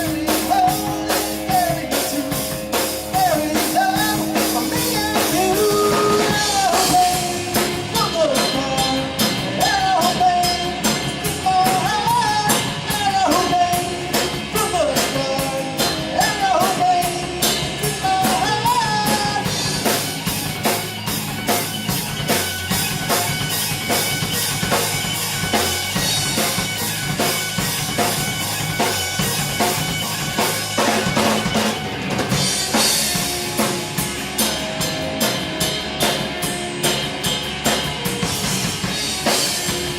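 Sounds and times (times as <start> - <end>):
drum-kit beat: 0.0 - 39.9
live rock band playing: 0.0 - 39.9
sliding lead guitar line: 0.0 - 39.9.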